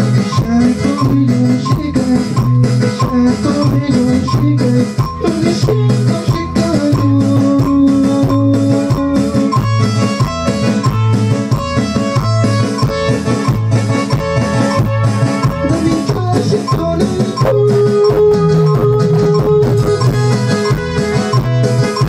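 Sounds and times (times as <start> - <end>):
loud dance music: 0.0 - 22.0.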